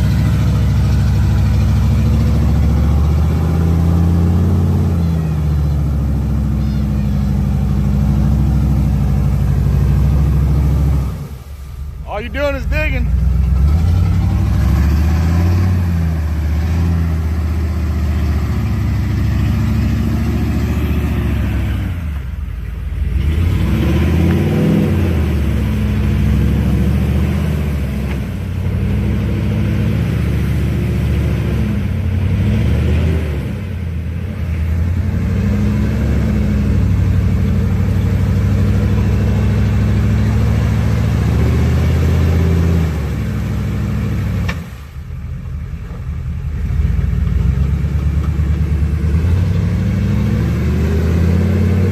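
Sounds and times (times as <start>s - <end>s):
off-road vehicle engine revving: 0.0s - 51.9s.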